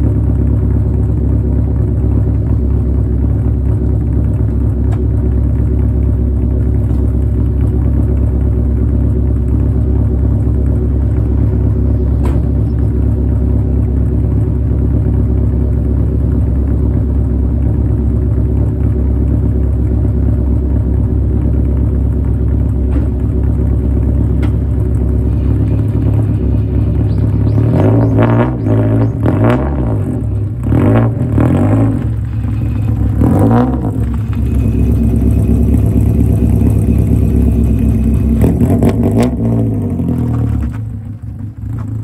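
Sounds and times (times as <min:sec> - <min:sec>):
car engine idling with deep rumble: 0:00.0 - 0:42.0.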